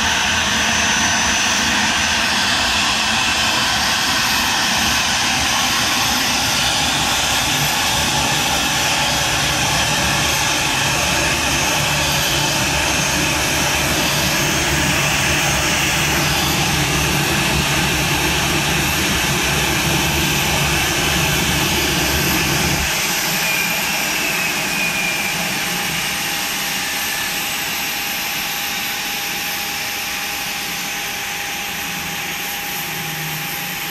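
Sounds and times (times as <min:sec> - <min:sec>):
jet engine whine: 0:00.0 - 0:33.9
jet engines idling: 0:00.0 - 0:33.9.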